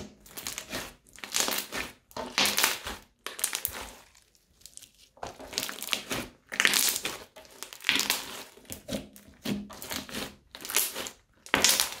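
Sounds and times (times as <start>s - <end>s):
crunchy slime being kneaded: 0.0s - 12.0s.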